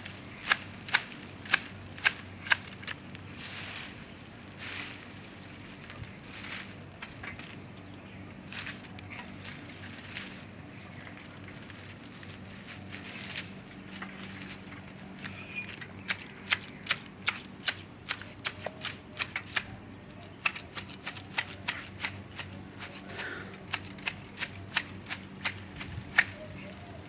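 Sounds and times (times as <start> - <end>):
pruning shears snipping twigs: 0.0 - 4.0, 4.6 - 27.0
steady low hum: 0.0 - 27.0.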